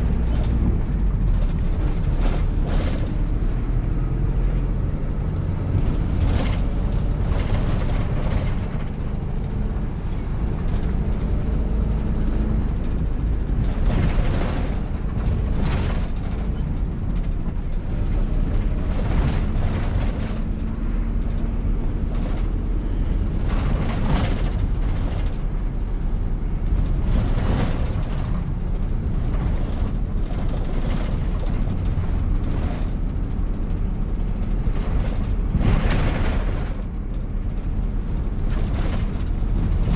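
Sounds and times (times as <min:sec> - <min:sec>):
bus engine and tyres rumbling: 0:00.0 - 0:39.9
clatters and knocks from bus body: 0:00.0 - 0:39.9.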